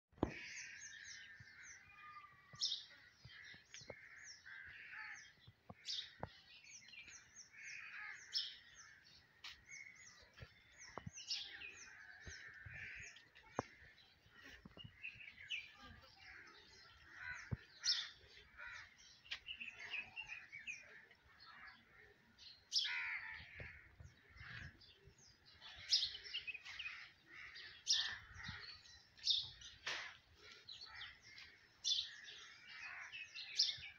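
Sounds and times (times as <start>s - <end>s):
birds chirping and calling: 0.2s - 33.9s.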